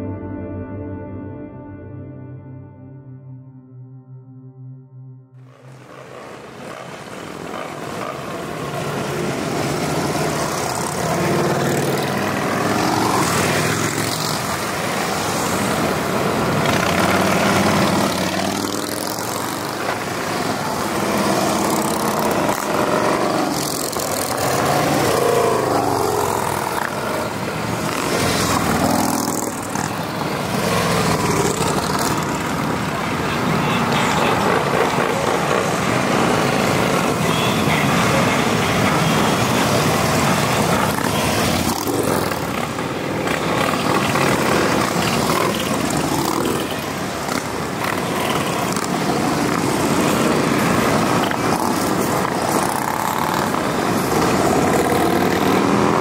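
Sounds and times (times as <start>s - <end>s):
motorcycles riding past: 5.4s - 56.0s.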